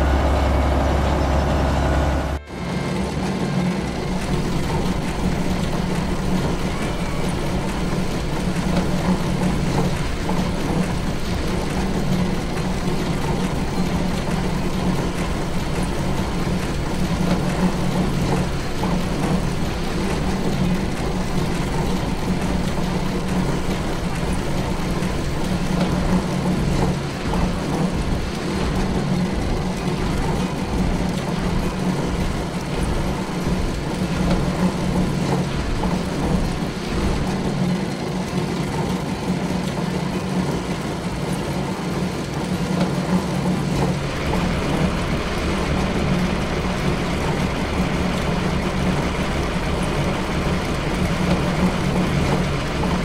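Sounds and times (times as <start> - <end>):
conveyor machinery running: 0.0 - 53.0.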